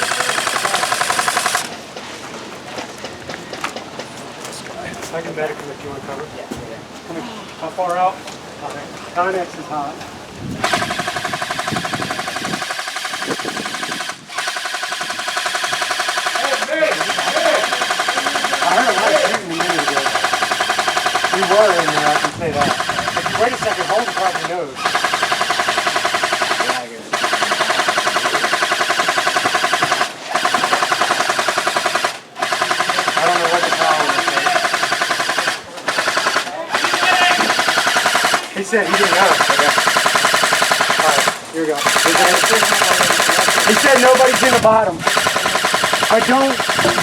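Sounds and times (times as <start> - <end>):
airsoft rifle full-auto bursts: 0.0 - 1.7, 10.6 - 47.0.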